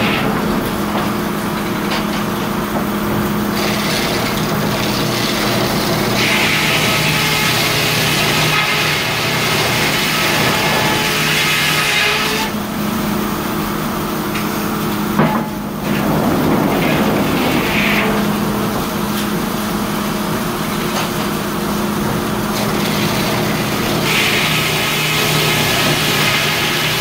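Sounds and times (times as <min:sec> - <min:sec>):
sawmill machinery humming: 0:00.0 - 0:27.0.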